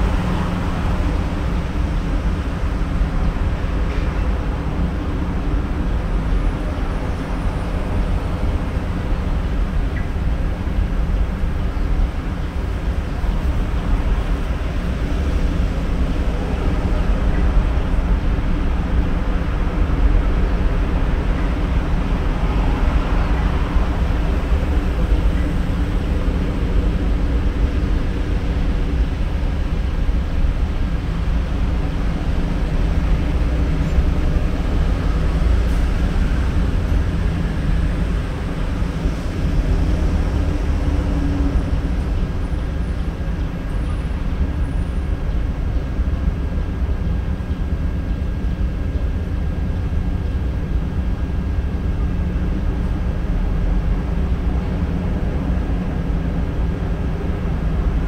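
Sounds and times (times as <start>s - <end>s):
constant mechanical hum: 0.0s - 58.0s
distant road traffic rumble: 0.0s - 58.0s.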